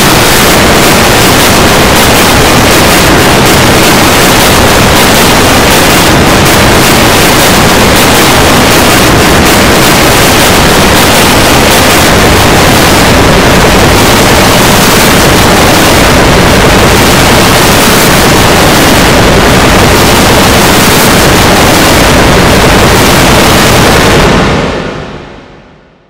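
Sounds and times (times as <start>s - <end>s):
loud distorted static noise: 0.0s - 26.0s.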